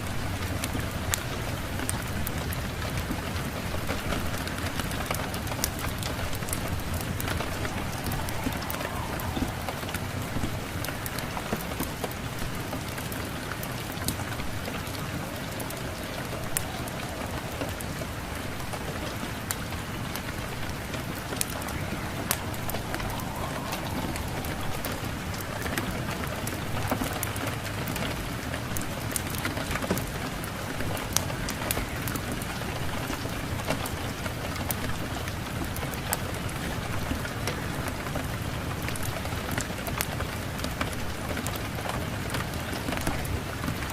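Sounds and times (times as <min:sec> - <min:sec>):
steady rain: 0:00.0 - 0:43.9
wood fire crackling: 0:00.1 - 0:37.6.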